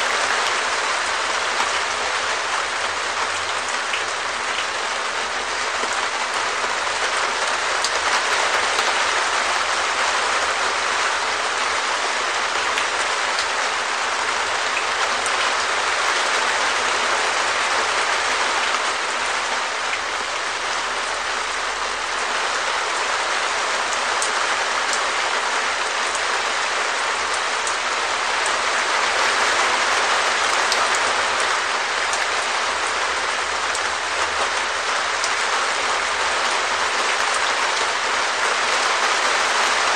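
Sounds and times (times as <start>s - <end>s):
rain on plastic roof: 0.0s - 39.9s.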